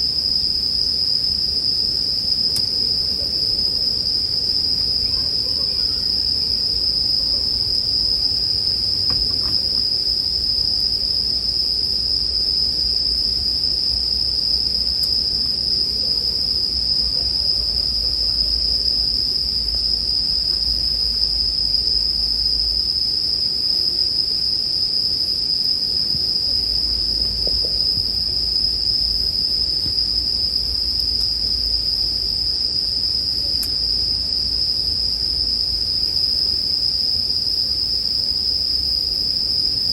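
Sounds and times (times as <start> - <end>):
crickets singing: 0.0 - 39.9.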